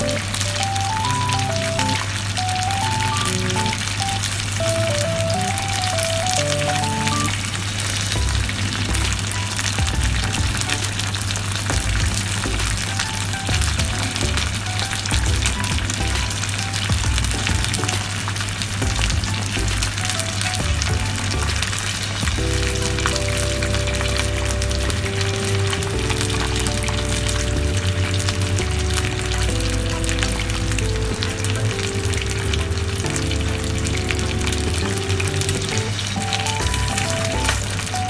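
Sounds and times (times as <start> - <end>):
background music with held notes: 0.0 - 38.0
chicken sizzling in hot oil: 0.0 - 38.0.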